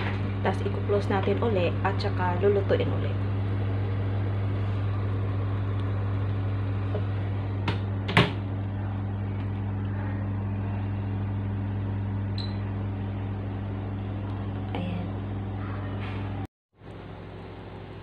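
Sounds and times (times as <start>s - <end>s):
oven humming: 0.0s - 18.0s.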